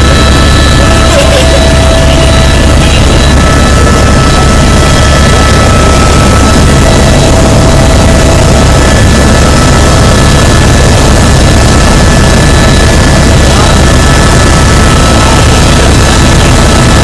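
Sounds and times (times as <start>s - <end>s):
helicopter engine and rotor: 0.0s - 17.0s
high whine: 0.0s - 17.0s.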